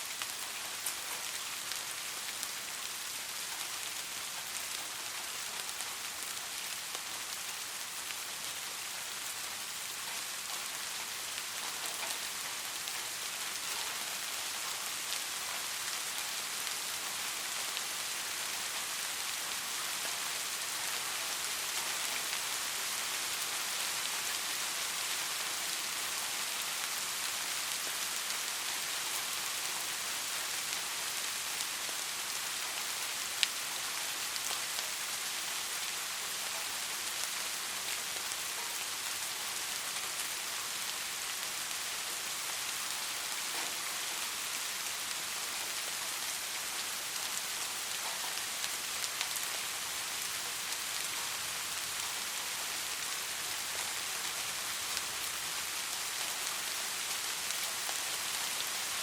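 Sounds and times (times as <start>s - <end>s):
soft rain pattering: 0.0s - 59.0s.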